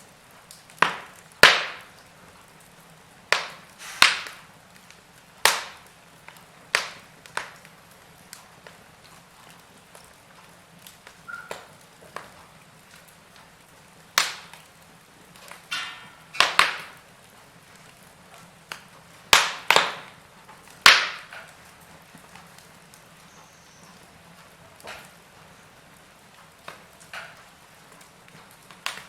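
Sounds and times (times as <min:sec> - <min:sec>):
fire snapping loudly: 0:00.0 - 0:29.0
wood fire crackling: 0:00.0 - 0:29.0.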